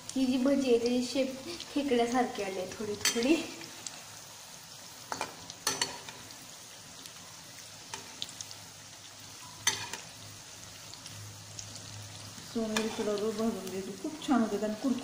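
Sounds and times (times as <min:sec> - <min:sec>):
fritters sizzling in hot oil: 0:00.0 - 0:15.0.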